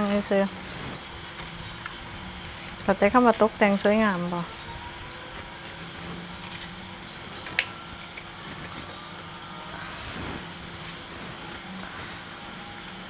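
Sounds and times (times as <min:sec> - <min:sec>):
high insect trill: 0:00.0 - 0:13.0
low hum: 0:00.0 - 0:13.0.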